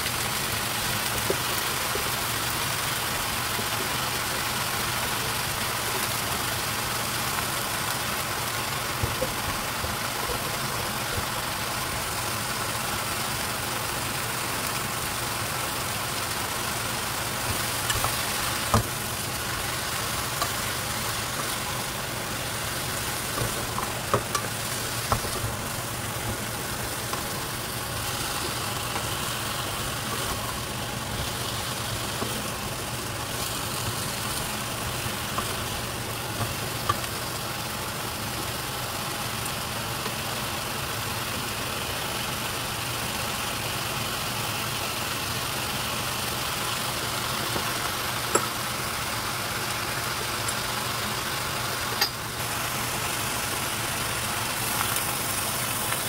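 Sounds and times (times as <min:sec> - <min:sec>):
food cooking in pan: 0:00.0 - 0:56.0.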